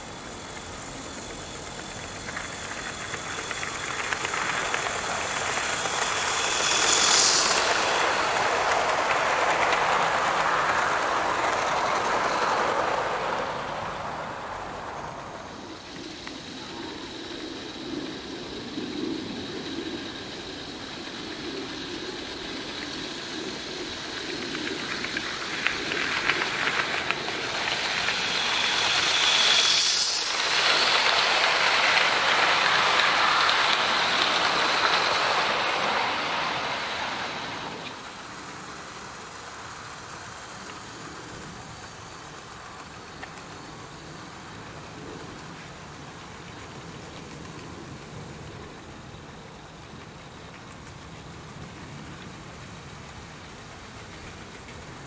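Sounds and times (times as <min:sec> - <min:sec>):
model train passing on track: 0:00.0 - 0:55.0.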